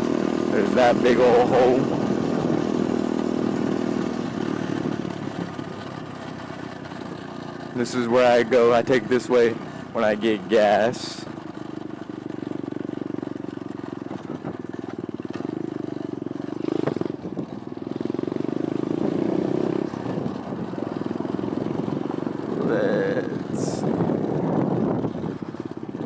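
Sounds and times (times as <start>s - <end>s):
motorbike engine buzzing: 0.0s - 26.0s.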